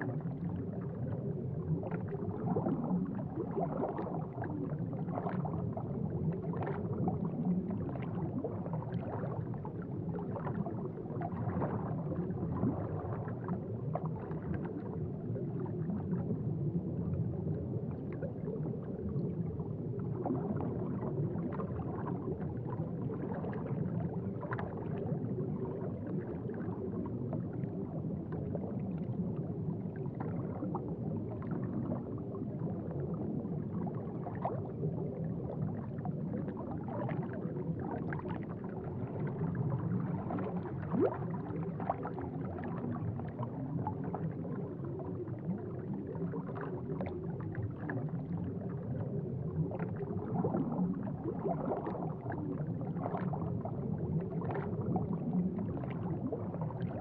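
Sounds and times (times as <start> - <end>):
aquarium water bubbling: 0.0 - 57.0.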